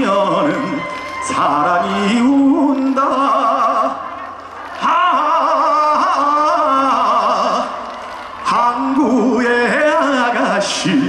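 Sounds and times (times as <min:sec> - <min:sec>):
man singing through pa: 0:00.0 - 0:11.0.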